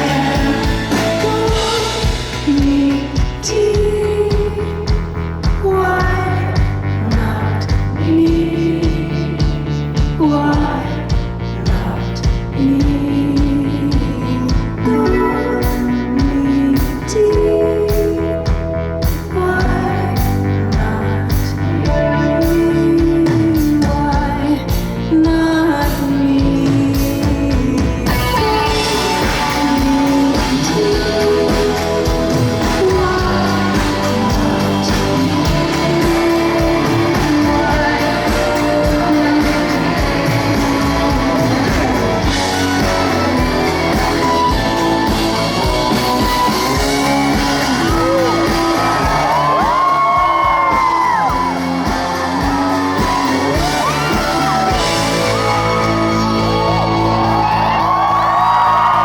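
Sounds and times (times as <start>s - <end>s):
woman singing: 0.0s - 57.4s
live band playing indie rock: 0.0s - 59.0s.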